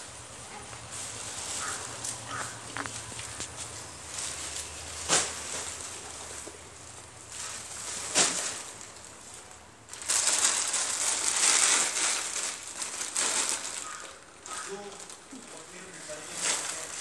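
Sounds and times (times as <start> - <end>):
plastic sacks crinkling: 0.0 - 17.0.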